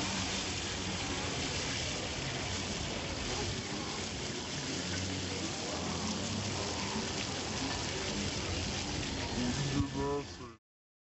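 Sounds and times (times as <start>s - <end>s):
fish sizzling in oil: 0.0s - 10.3s
faint voices: 0.0s - 10.6s.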